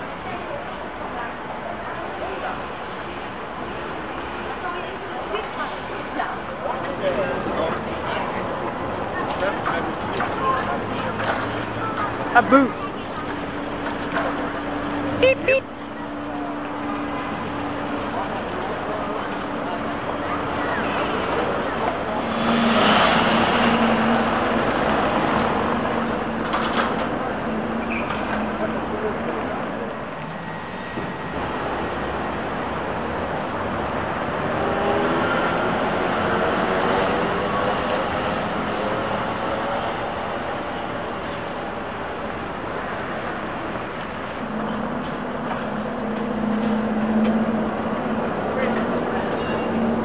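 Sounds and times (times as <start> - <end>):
bus engine drone: 0.0 - 50.0
traffic passing close: 0.0 - 50.0.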